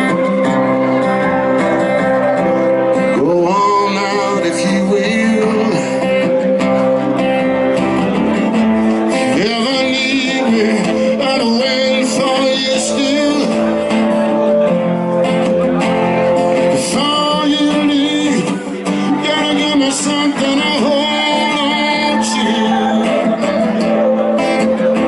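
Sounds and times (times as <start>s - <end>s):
live blues band playing: 0.0s - 25.0s
person singing: 0.0s - 25.0s
sliding lead guitar line: 0.0s - 25.0s.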